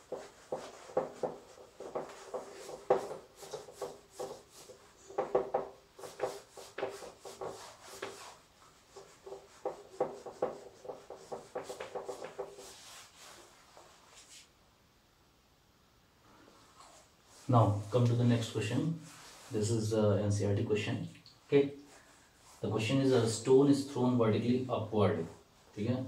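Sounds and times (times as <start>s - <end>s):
cloth wiping whiteboard: 0.0s - 14.6s, 16.5s - 20.0s, 21.4s - 24.0s, 25.1s - 26.0s.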